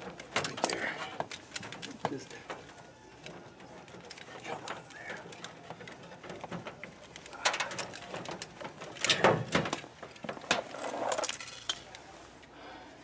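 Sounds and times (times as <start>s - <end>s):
cables and plugs clicking: 0.0s - 12.1s.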